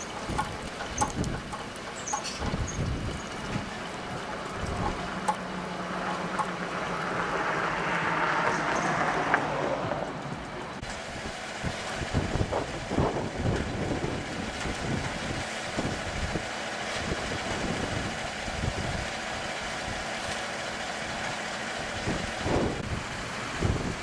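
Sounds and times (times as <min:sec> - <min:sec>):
wind buffeting microphone: 0:00.0 - 0:07.8, 0:08.5 - 0:19.2, 0:21.9 - 0:24.0.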